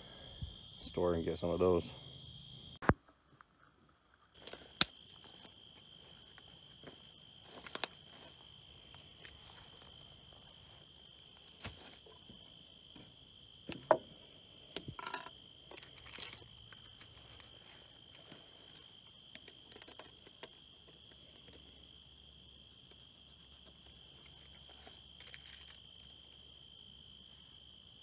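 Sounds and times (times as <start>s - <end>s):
insects trilling: 0.0s - 2.8s, 3.4s - 28.0s.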